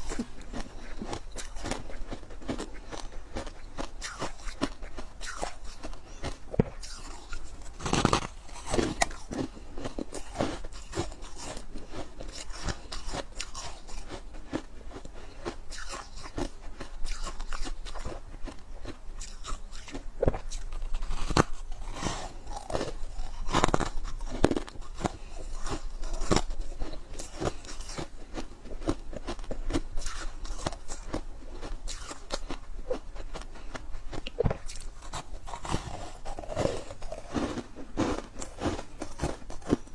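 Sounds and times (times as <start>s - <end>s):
frost being chewed: 0.0s - 39.9s.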